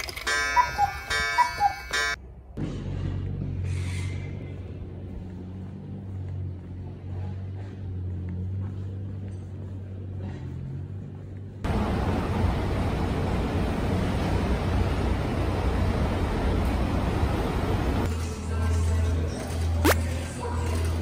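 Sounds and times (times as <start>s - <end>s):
low outdoor rumble: 2.2s - 21.0s.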